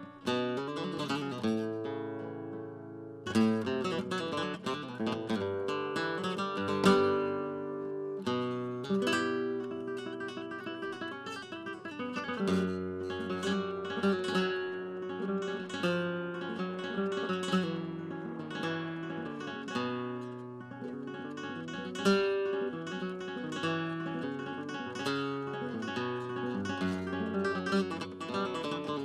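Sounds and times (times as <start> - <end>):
acoustic guitar music: 0.0 - 29.0.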